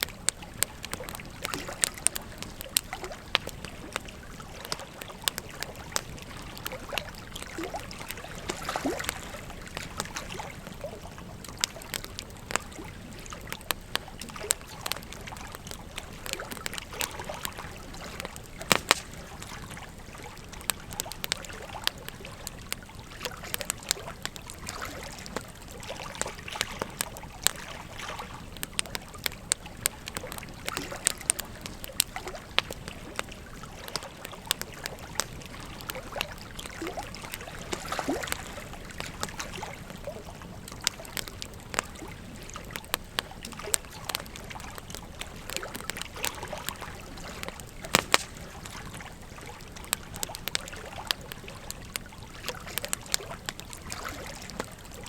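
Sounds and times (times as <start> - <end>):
flowing river water: 0.0 - 55.0
wood fire crackling: 0.0 - 55.0.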